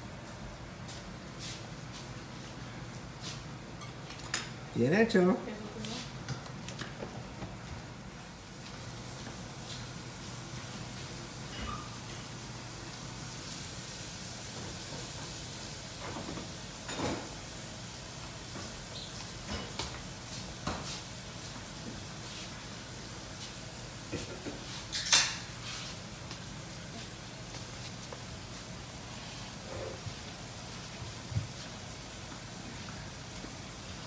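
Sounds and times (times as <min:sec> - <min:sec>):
low hum and hiss: 0:00.0 - 0:34.0.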